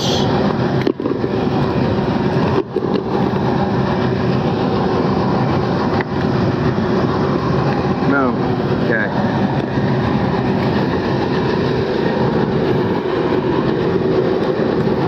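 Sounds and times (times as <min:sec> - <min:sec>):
air-conditioning unit drone: 0:00.0 - 0:15.0.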